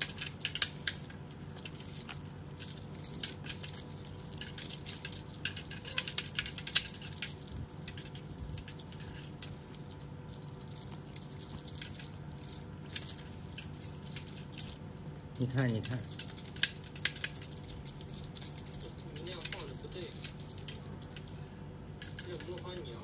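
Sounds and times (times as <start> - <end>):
cat toy jingling clicks: 0.0 - 21.4, 22.0 - 23.0
faint steady hum: 0.0 - 23.0.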